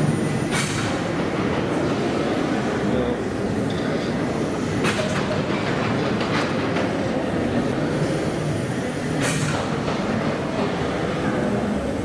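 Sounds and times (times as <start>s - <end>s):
steam engine clatter and rumble: 0.0s - 12.0s.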